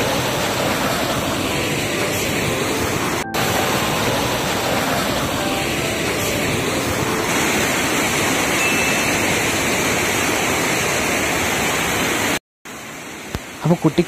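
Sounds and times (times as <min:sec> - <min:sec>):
river water rushing over weir: 0:00.0 - 0:14.0.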